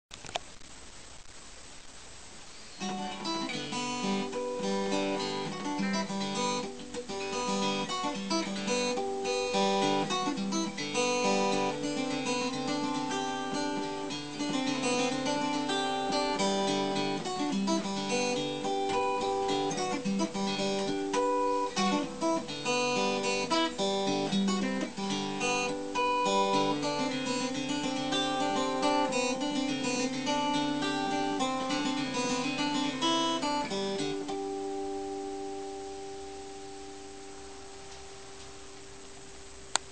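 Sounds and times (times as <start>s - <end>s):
fingerpicked acoustic guitar: 2.3s - 39.9s.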